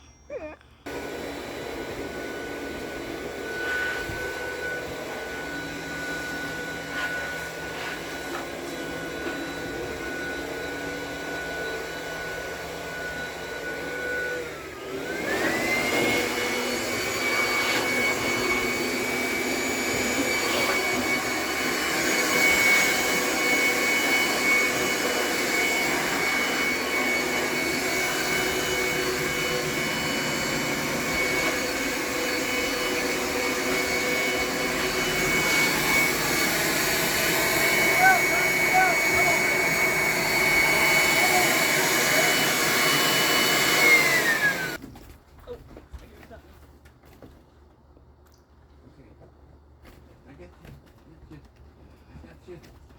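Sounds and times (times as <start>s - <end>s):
small motor whining: 0.9s - 44.8s.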